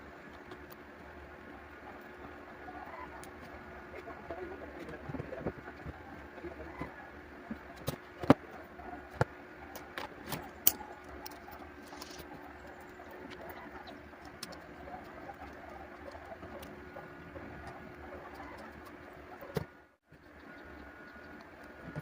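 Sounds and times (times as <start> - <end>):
pigeons cooing faintly: 0.0 - 22.0.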